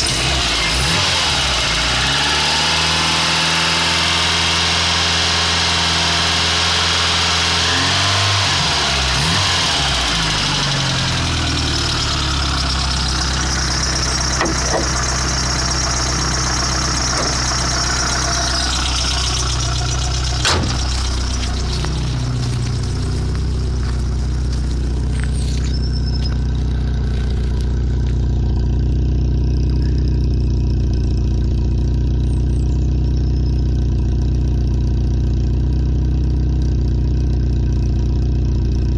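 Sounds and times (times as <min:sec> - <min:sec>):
car engine idling with rattle: 0:00.0 - 0:38.9.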